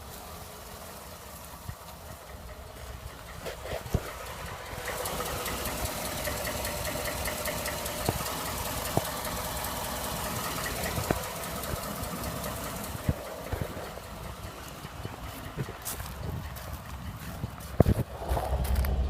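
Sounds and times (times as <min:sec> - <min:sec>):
engine running with ticking knock: 0:00.0 - 0:19.0.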